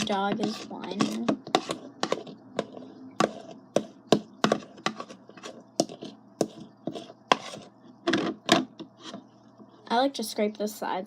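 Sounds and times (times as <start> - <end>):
utensil scraping a bowl: 0.0 - 9.3.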